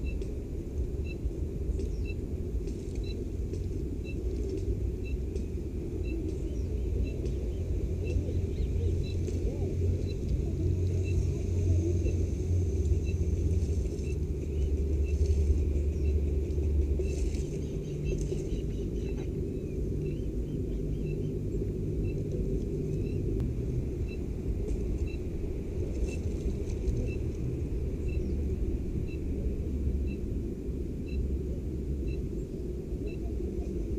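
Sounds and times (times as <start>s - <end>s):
low rumble on microphone: 0.0s - 33.9s.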